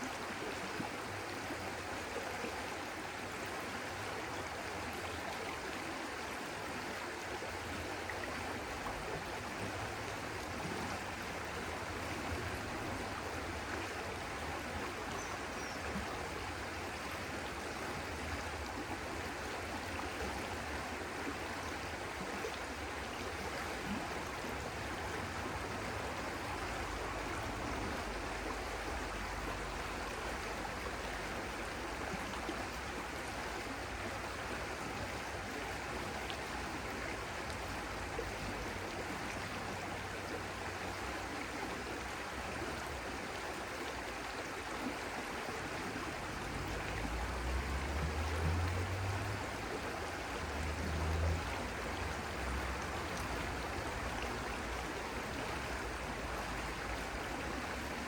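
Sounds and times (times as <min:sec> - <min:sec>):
water flowing: 0:00.0 - 0:58.0.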